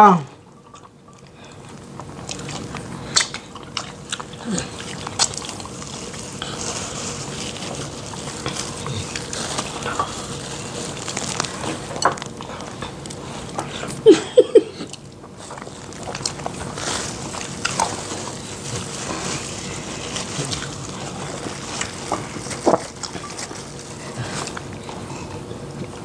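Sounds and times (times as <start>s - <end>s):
wet mouth eating noises: 0.6s - 14.0s, 14.8s - 26.0s.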